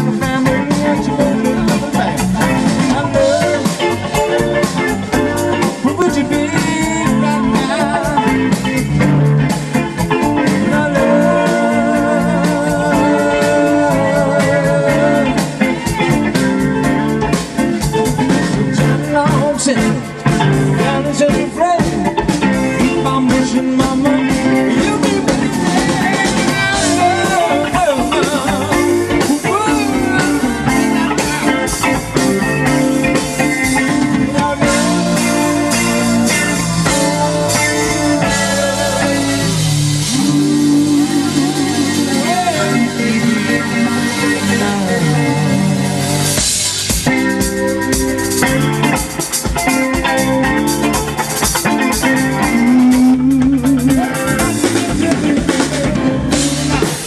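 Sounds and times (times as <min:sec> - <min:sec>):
live blues rock band playing: 0:00.0 - 0:57.0.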